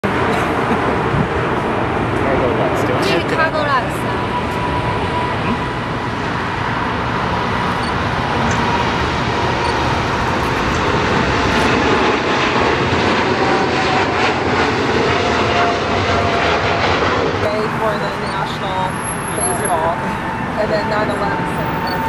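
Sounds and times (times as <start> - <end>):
faint jet whine: 0.0 - 22.0
jet engines rumbling at takeoff: 0.0 - 22.0.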